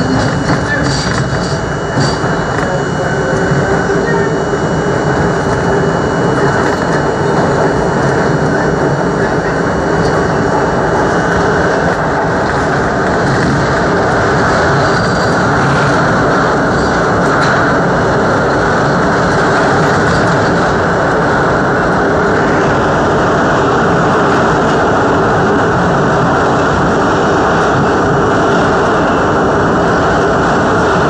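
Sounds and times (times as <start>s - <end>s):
subway car rumbling in tunnel: 0.0s - 31.0s.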